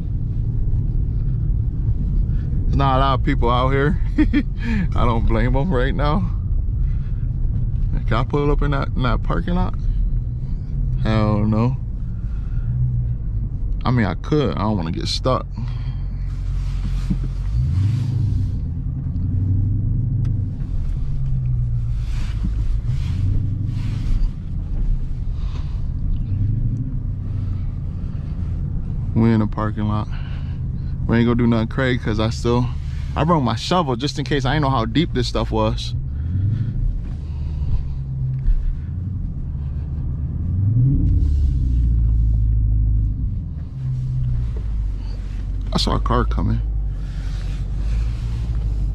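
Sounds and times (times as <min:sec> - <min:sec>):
car engine low rumble: 0:00.0 - 0:48.9.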